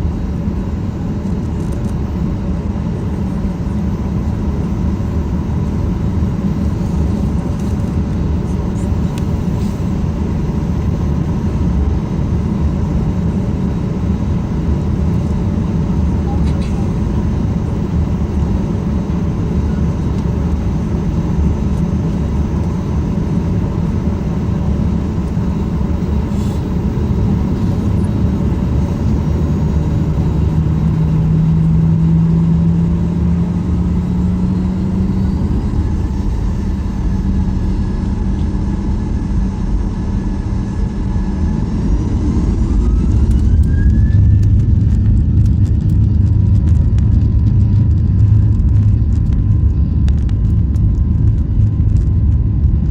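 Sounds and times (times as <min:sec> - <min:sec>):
jet engine cabin rumble: 0:00.0 - 0:52.9
jet engine whine: 0:00.0 - 0:52.9.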